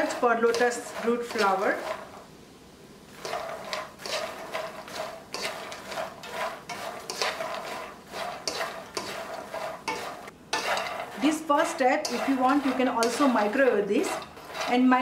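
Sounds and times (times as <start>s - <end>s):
spatula scraping in a frying pan: 0.0s - 2.4s, 3.0s - 15.0s.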